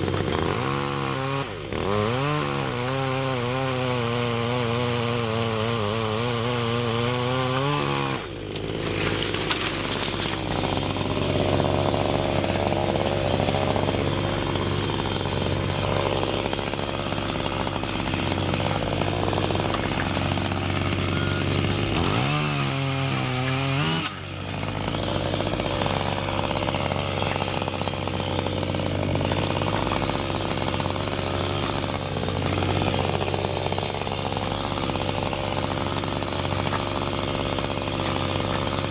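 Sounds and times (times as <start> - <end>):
electric chainsaw cutting wood: 0.0 - 38.9.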